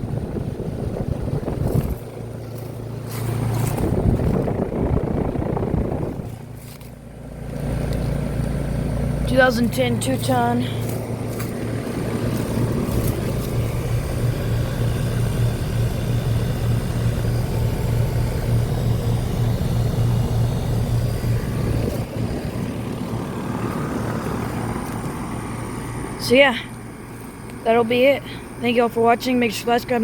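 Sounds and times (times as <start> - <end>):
condenser fan whoosh: 0.0 - 29.0
compressor hum: 0.0 - 30.0.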